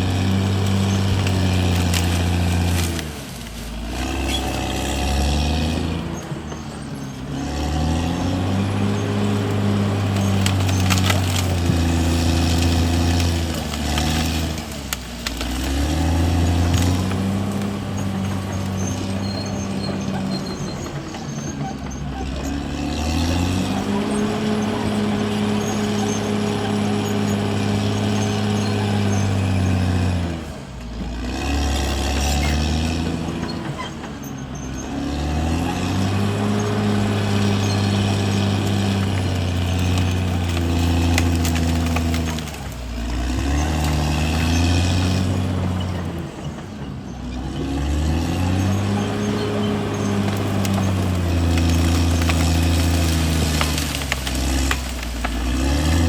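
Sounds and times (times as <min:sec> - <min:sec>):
bulldozer diesel engine working: 0:00.0 - 0:56.0.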